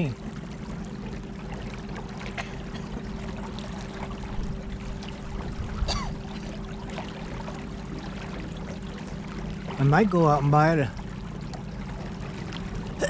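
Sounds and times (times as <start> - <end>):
electric boat motor humming: 0.0 - 13.0
water lapping against boat: 0.0 - 13.0.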